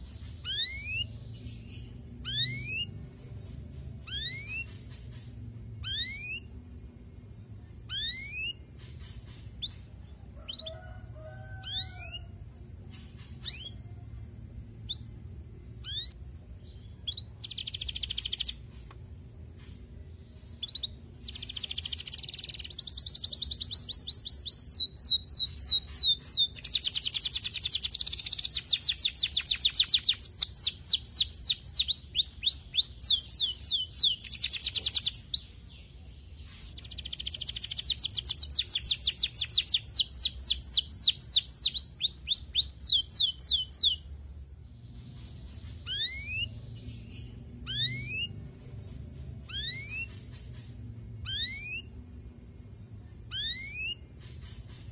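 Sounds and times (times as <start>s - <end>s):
canary chirps: 0.0s - 54.9s
canary singing trills: 0.0s - 54.9s.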